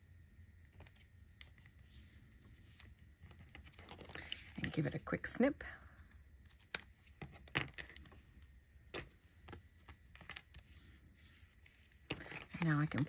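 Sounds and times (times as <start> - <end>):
tape and paper handled: 0.8 - 5.0, 6.4 - 13.0.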